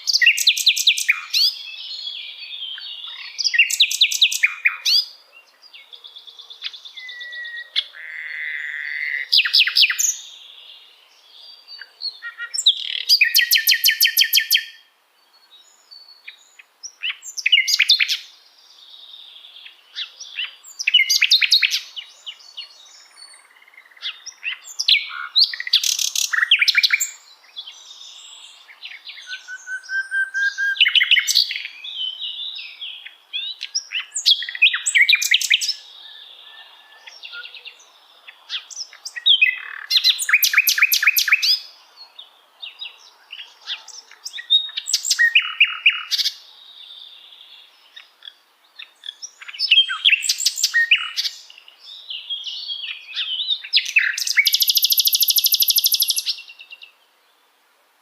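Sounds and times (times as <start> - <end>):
nightingale singing: 0.0 - 57.5.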